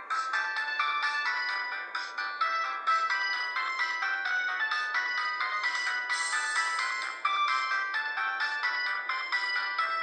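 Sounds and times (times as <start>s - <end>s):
synthesized phone ringtone melody: 0.0s - 10.0s.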